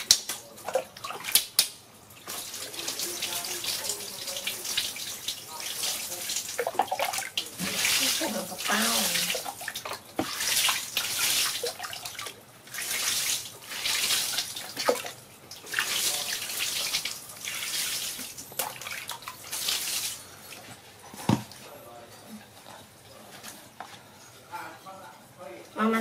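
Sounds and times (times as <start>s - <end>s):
water poured and splashing: 0.0s - 21.7s.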